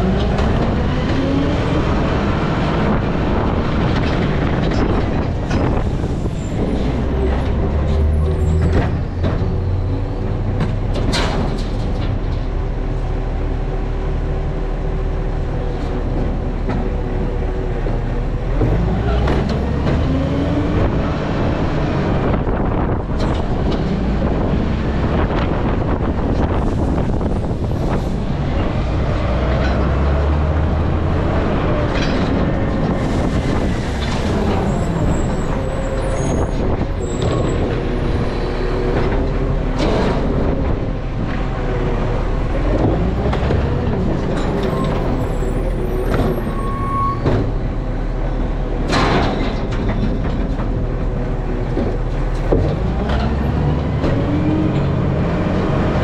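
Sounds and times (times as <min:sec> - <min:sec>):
garbage truck diesel engine running: 0:00.0 - 0:56.0.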